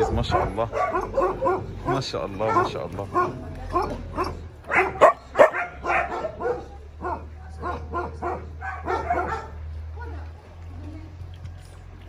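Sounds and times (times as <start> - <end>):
puppies barking and yipping: 0.0 - 10.1.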